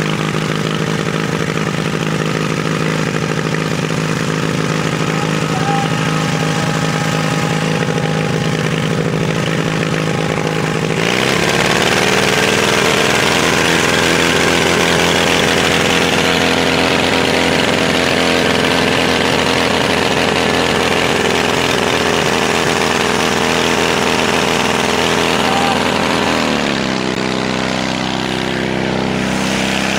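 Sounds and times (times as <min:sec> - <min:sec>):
pump engine revving: 0:00.0 - 0:29.9.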